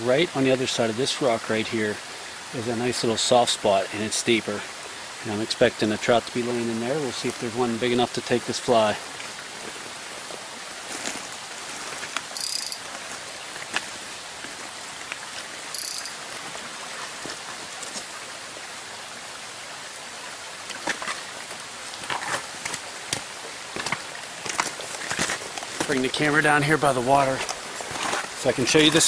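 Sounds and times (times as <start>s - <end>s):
mountain stream: 0.0s - 29.0s
rain hissing: 0.0s - 29.0s.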